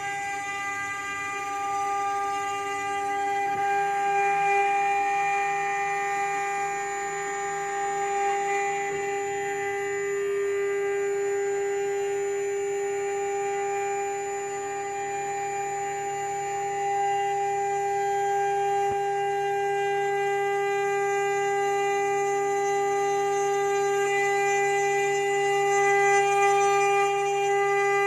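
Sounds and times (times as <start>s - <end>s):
engraving router whining: 0.0s - 28.0s.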